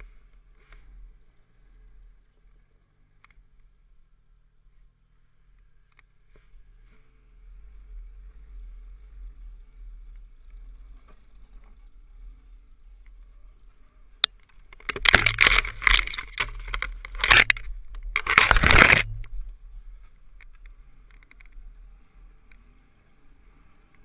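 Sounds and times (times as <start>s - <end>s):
snowmobile engine rumble: 0.0s - 24.0s.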